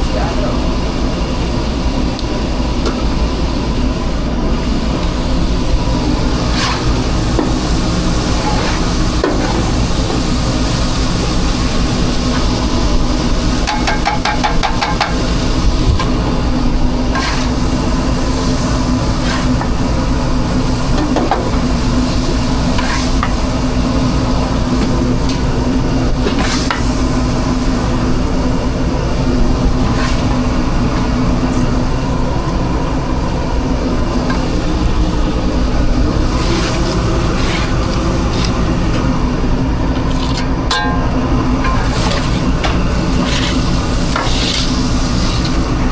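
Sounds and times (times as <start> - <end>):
steady machine hum: 0.0 - 45.9.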